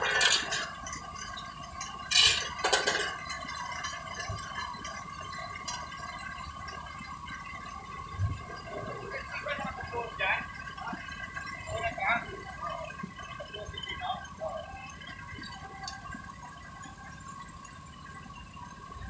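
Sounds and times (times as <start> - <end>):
metallic clinks and clatters: 0.0 - 18.6.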